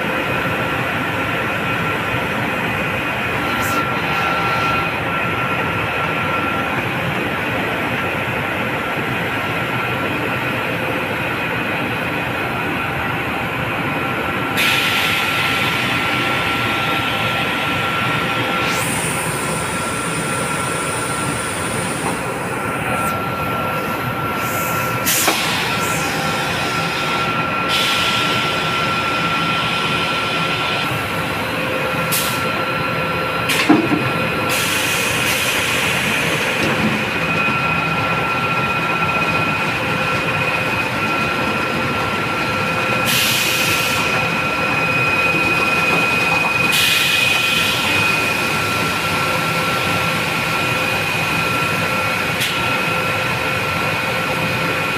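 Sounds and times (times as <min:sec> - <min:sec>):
centrifugal machine whining: 0:00.0 - 0:54.9.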